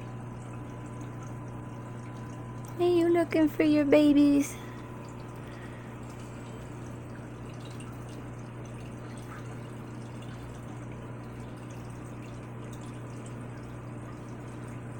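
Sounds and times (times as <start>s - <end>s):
aquarium filter hum: 0.0s - 14.9s
water trickling and dripping: 0.0s - 14.9s.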